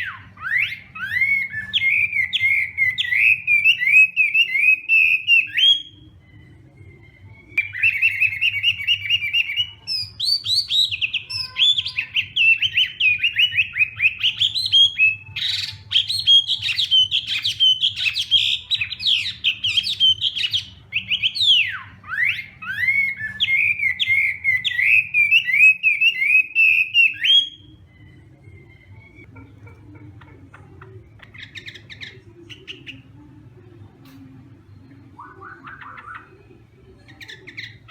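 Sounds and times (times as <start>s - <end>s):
bird singing trills and whistles: 0.0s - 29.3s, 34.9s - 37.9s.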